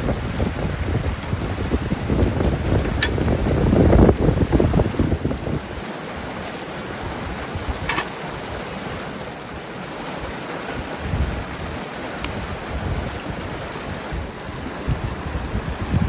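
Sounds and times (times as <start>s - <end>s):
river water rushing: 0.0s - 16.0s
wind rumble on microphone: 0.0s - 16.0s.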